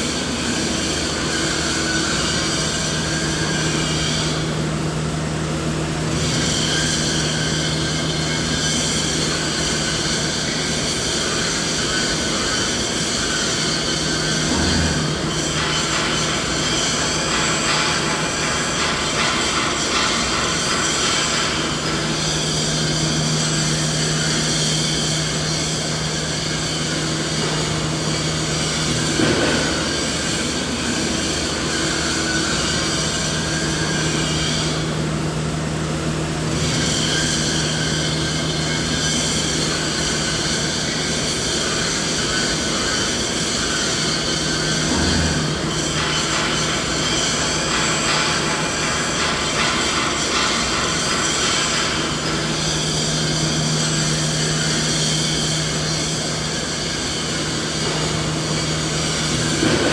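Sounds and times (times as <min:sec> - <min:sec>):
machinery hum and hiss: 0:00.0 - 0:59.9.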